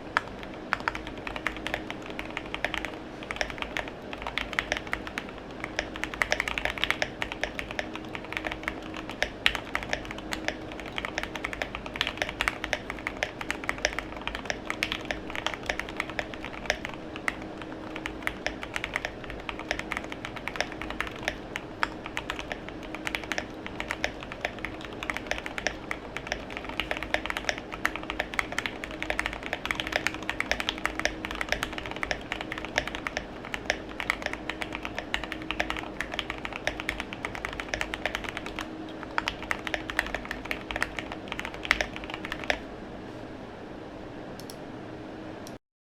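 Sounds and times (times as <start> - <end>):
fast mechanical keyboard typing: 0.0 - 42.7.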